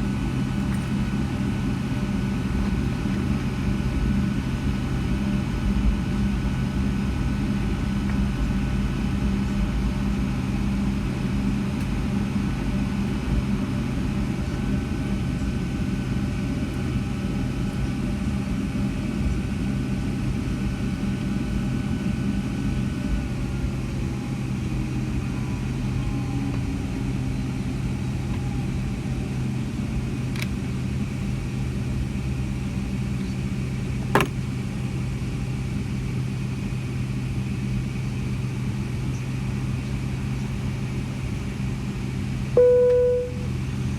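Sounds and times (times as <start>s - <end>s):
aircraft cabin engine hum: 0.0s - 43.9s
engine whine: 0.0s - 43.9s.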